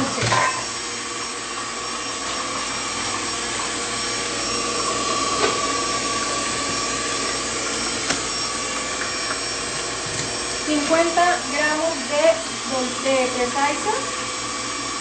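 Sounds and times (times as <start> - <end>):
electric stand mixer running: 0.0 - 15.0.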